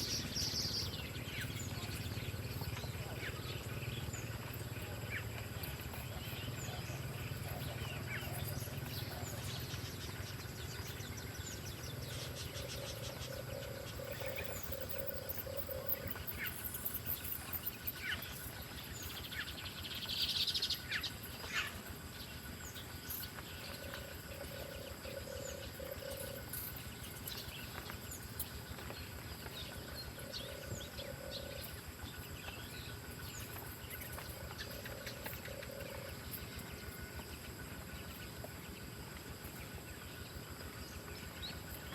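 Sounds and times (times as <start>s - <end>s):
high insect whine: 0.0s - 41.9s.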